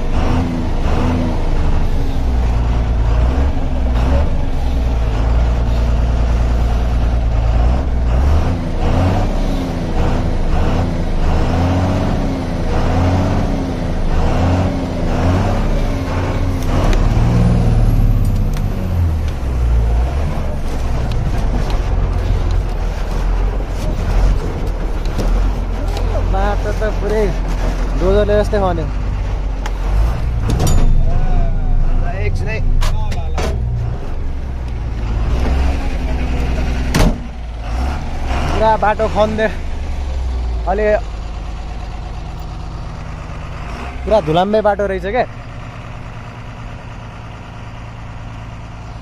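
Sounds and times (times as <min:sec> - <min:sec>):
truck diesel engine under load: 0:00.0 - 0:49.0
truck knocking and rattling: 0:00.0 - 0:49.0.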